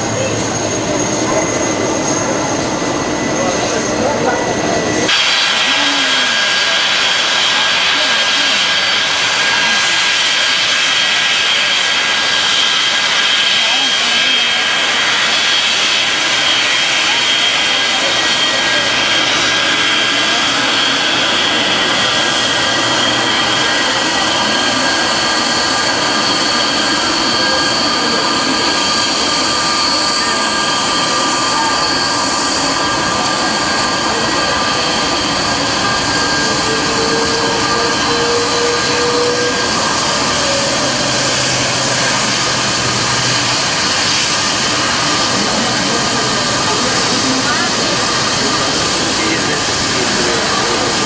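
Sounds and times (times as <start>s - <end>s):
jet engines rushing and whining: 0.0s - 51.0s.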